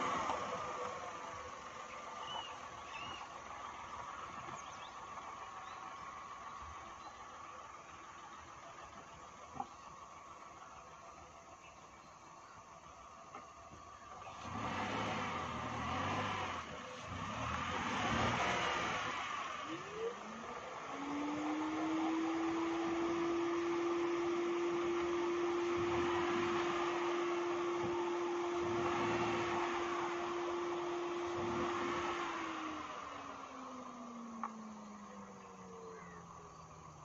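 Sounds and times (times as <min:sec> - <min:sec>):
car engine working: 0:00.0 - 0:37.0.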